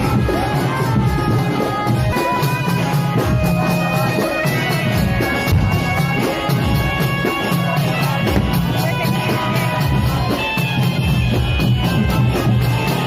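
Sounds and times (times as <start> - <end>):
crowd: 0.0 - 13.0
fast drumbeat: 0.0 - 13.0
held wind instrument notes: 0.0 - 13.0.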